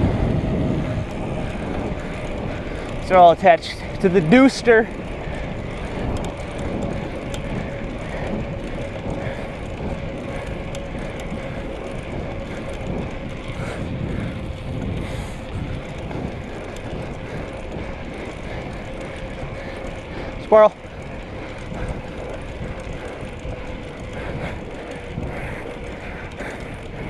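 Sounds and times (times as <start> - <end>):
steady hum: 0.0 - 27.0
tyres rolling on road: 0.0 - 27.0
wind over microphone: 0.0 - 27.0.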